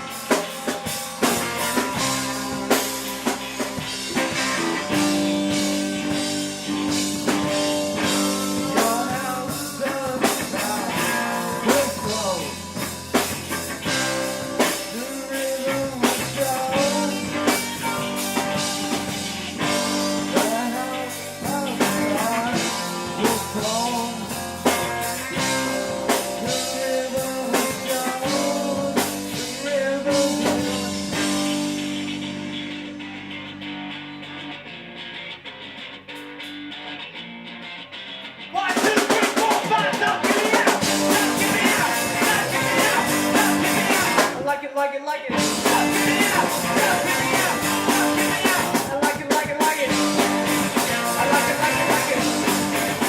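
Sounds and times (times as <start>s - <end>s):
rock band playing: 0.0s - 44.6s, 45.3s - 53.0s.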